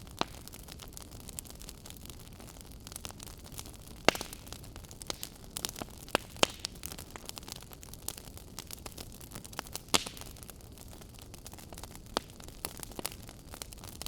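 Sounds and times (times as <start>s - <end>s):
low fire hiss: 0.0s - 14.0s
wood fire crackling and popping: 0.0s - 14.0s.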